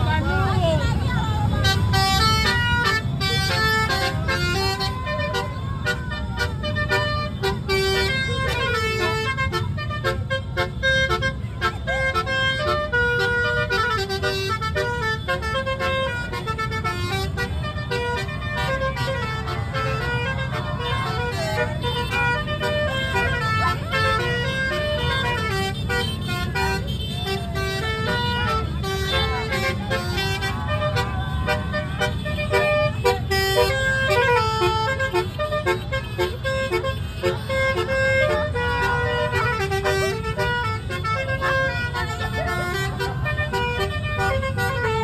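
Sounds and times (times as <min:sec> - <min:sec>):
tuned vehicle horns playing melody: 0:00.0 - 0:45.0.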